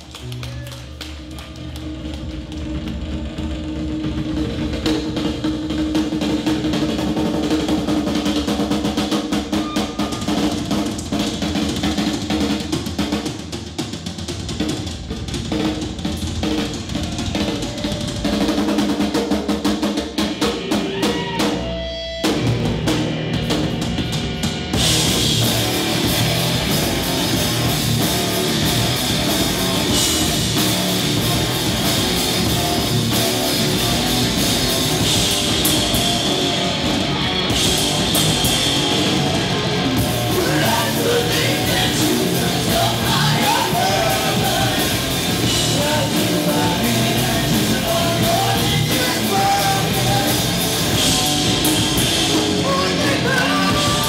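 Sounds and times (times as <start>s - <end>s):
drum kit: 0.0s - 54.0s
rock band playing: 0.0s - 54.0s.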